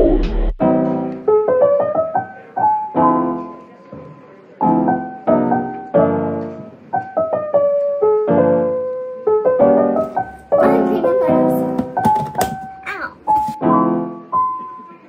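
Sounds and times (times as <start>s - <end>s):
slow gentle piano music: 0.2s - 15.0s.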